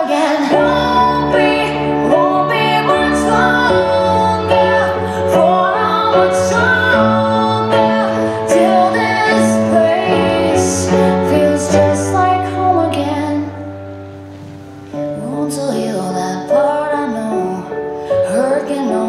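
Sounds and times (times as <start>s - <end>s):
woman singing slow song: 0.0s - 13.8s, 15.0s - 19.0s.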